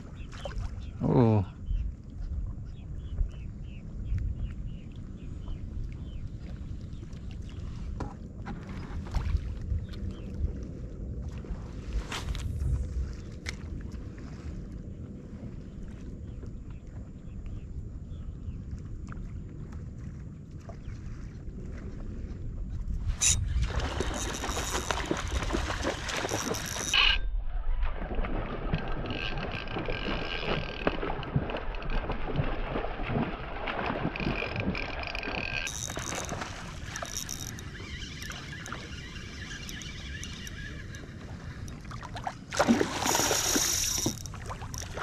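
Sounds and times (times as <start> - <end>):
water lapping against kayak: 0.0 - 27.1, 27.7 - 45.0
wind on microphone: 0.0 - 45.0.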